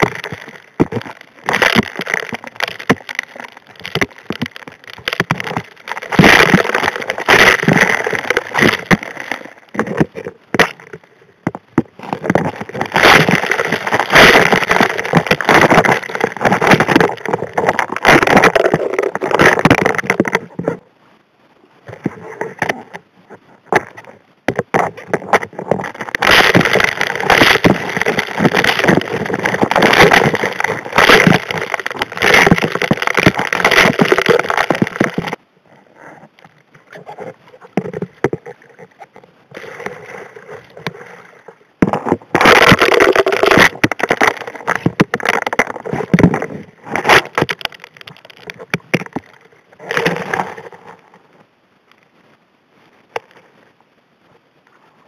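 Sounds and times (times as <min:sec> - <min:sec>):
stones rattling in suction nozzle underwater: 0:00.0 - 0:20.8, 0:21.8 - 0:35.4, 0:36.2 - 0:51.0.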